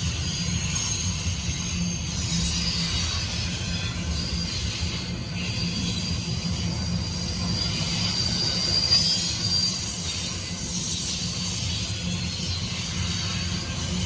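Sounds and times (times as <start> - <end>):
freight train rumbling: 0.0 - 14.0
train wheels squealing: 0.0 - 14.0.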